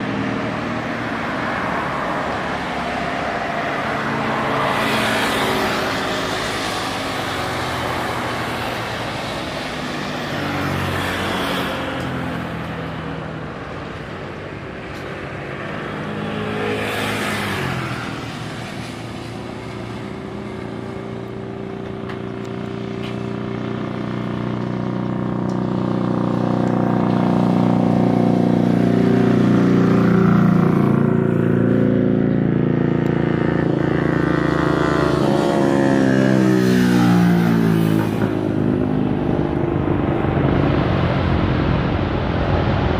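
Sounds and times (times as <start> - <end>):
steady engine hum: 0.0 - 42.9
vehicles passing: 0.0 - 42.9.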